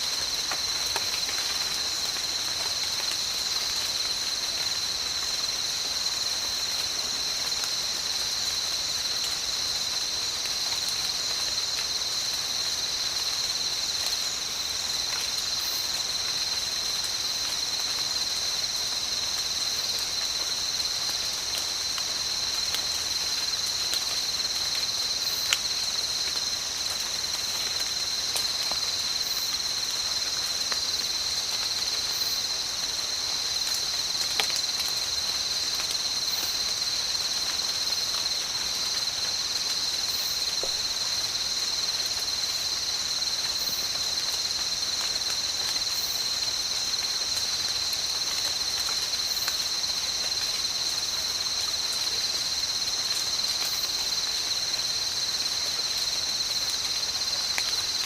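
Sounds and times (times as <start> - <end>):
insects chorus: 0.0 - 58.0
rain falling: 0.0 - 58.0.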